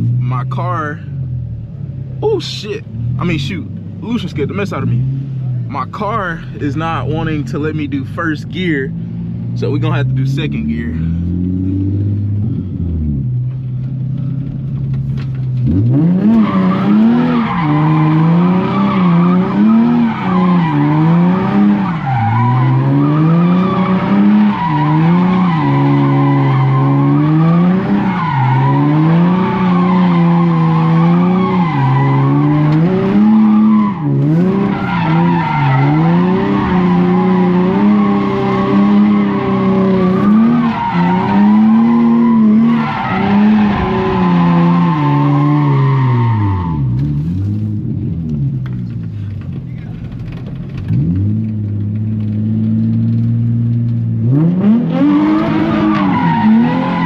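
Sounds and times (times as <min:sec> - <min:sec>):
car engine revving with loud exhaust: 0:00.0 - 0:57.0.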